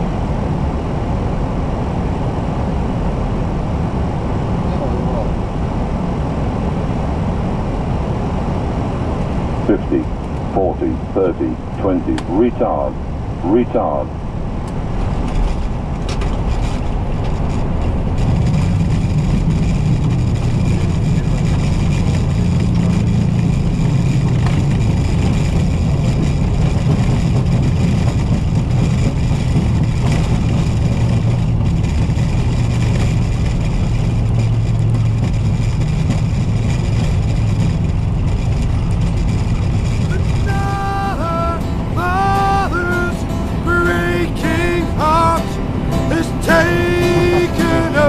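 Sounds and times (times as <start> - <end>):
jet engines roaring: 0.0 - 48.0
wheels rumbling on runway: 0.0 - 48.0.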